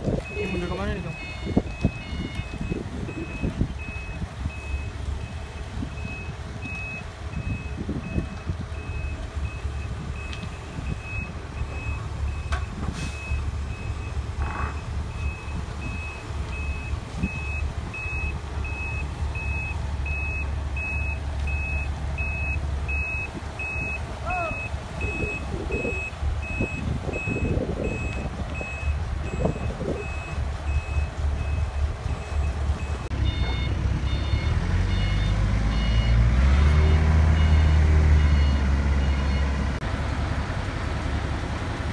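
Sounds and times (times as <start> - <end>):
diesel engine rumble: 0.0 - 41.9
reversing alarm beeping: 0.2 - 39.6.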